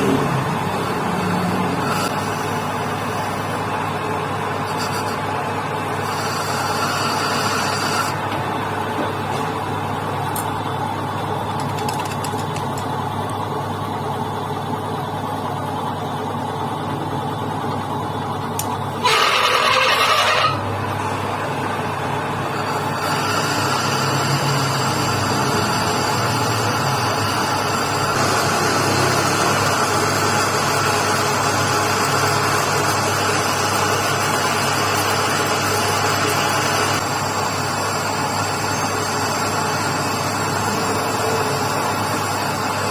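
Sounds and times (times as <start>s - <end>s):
harsh loud machine sound: 0.0s - 42.9s
lathe running: 0.0s - 42.9s
workshop machine humming: 0.0s - 42.9s.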